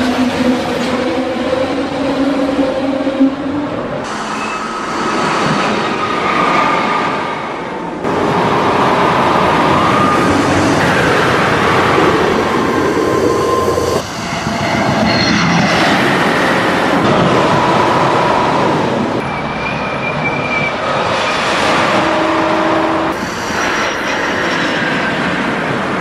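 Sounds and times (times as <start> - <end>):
train rushing past: 0.0 - 26.0.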